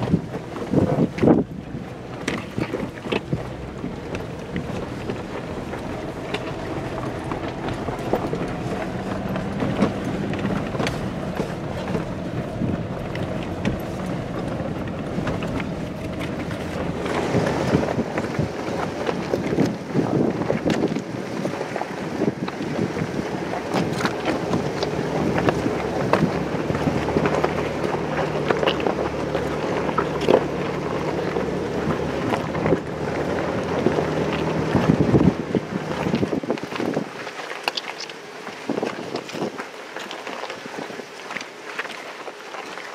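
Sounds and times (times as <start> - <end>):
vehicle engine at low speed: 0.0 - 37.3
wind noise on microphone: 0.0 - 37.4, 38.4 - 41.4
vehicle body rattling over stones: 0.0 - 42.9.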